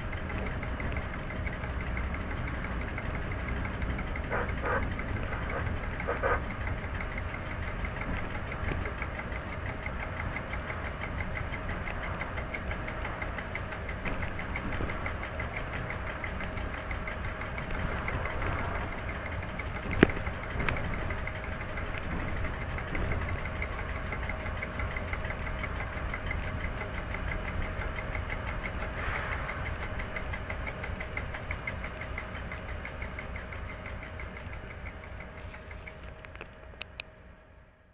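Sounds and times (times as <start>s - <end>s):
locomotive diesel engine running: 0.0s - 37.9s.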